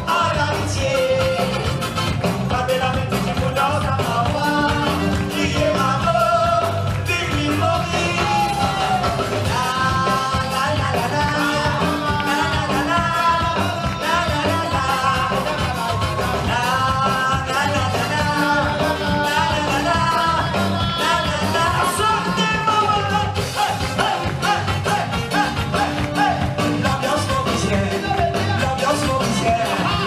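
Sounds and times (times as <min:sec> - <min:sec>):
drum kit fast beat: 0:00.0 - 0:30.0
guitar: 0:00.0 - 0:30.0
person singing: 0:00.0 - 0:30.0.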